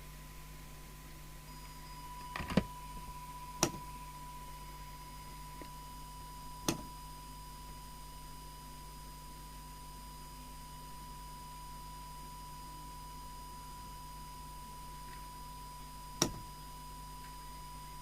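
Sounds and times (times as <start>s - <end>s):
low mains hum: 0.0s - 18.0s.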